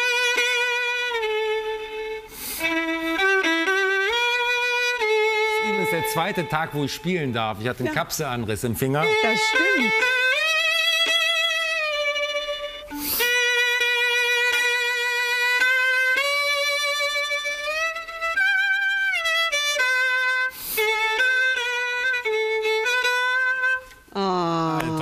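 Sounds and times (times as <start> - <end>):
solo violin slow melody: 0.0 - 25.0.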